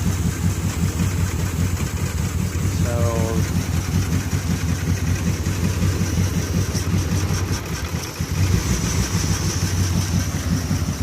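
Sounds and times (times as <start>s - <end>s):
engine idling unevenly: 0.0s - 11.0s.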